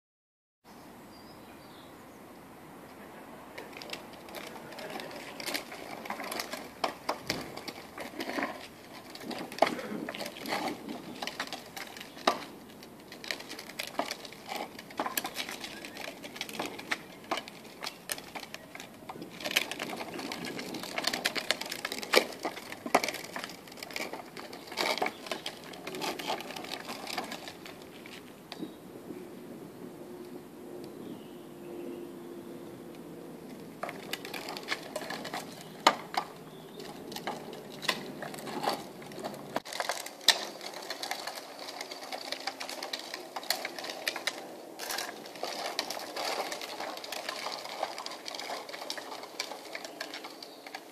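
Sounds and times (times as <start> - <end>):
plastic tricycle wheels rattling: 3.0 - 29.6, 31.0 - 50.9.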